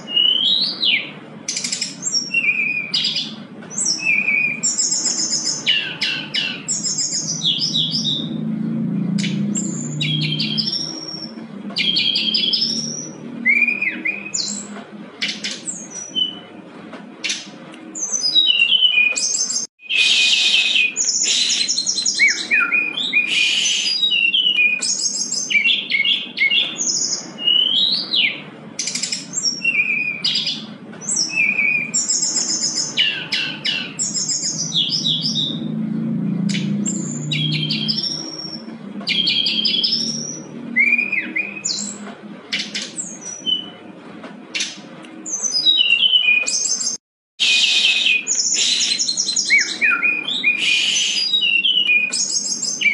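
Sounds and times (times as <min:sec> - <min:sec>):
bird singing whistles and trills: 0:00.0 - 0:08.4, 0:09.1 - 0:16.5, 0:17.2 - 0:35.8, 0:36.4 - 0:43.8, 0:44.6 - 0:52.9.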